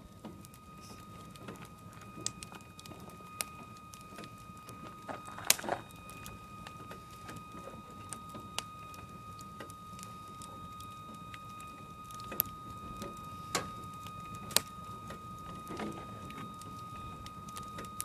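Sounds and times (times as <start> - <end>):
high-pitched hum: 0.0 - 18.0
wood fire crackling: 0.0 - 18.0.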